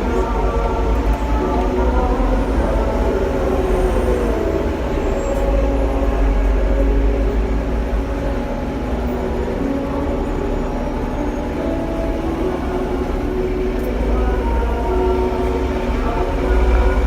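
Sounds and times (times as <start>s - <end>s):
tram rumble and hum: 0.0s - 17.0s.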